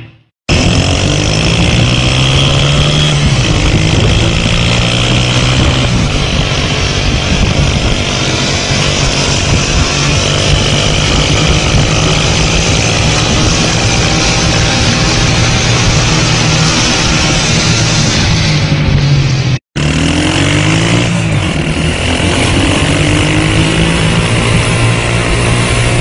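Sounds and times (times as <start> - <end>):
small motorcycle engine revving: 0.0 - 26.0.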